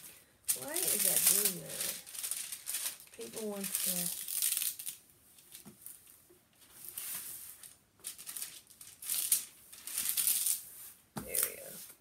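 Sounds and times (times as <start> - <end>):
plastic film crinkling: 0.0 - 11.9.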